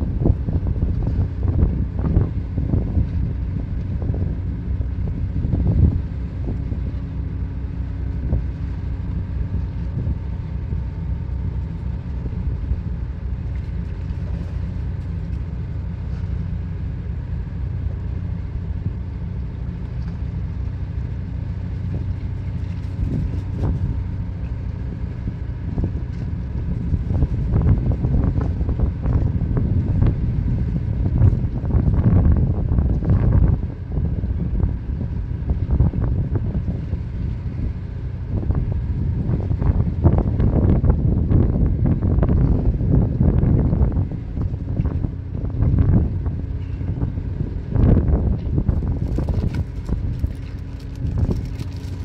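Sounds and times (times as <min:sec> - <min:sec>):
ship engine drone: 0:00.0 - 0:52.0.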